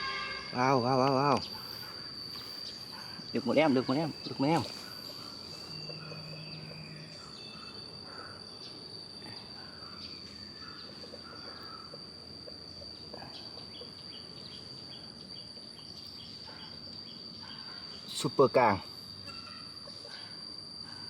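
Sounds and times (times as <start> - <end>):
crickets droning: 0.0 - 21.0.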